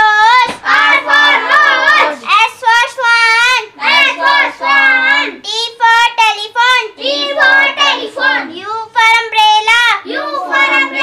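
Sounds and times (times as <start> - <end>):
children chanting sing-song: 0.0 - 11.0.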